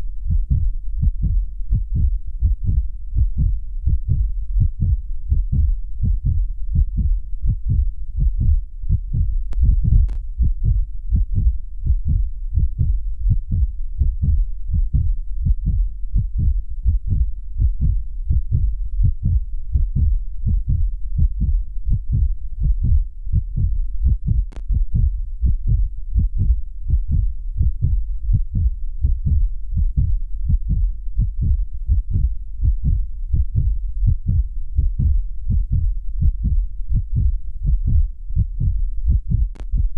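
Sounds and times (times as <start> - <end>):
constant deep rumble: 0.0 - 39.9
heartbeat thumps: 0.0 - 39.9.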